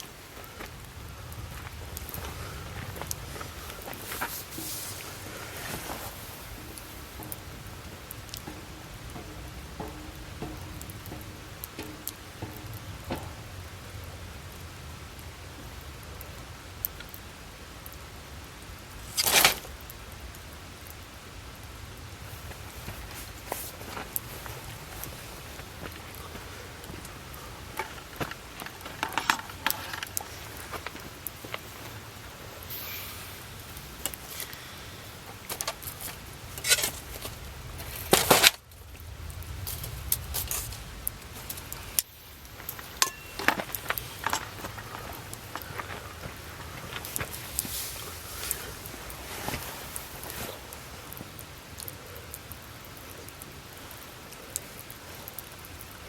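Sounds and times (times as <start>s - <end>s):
campfire rumble: 0.0s - 56.0s
fire crackling: 0.0s - 56.0s
sharp crack of fire: 0.0s - 56.0s.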